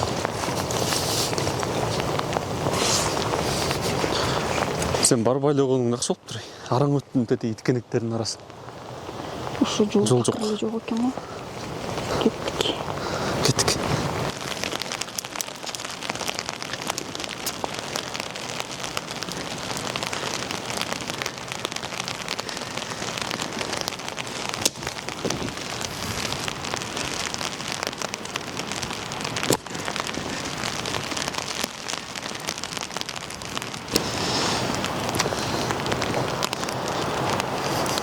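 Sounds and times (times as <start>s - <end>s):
rain pattering: 0.0s - 38.0s.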